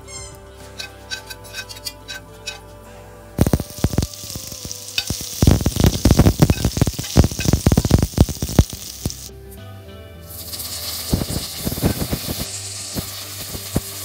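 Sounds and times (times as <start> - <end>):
hot oil sizzling with crackles: 0.8 - 2.6, 3.4 - 9.3, 10.3 - 14.0.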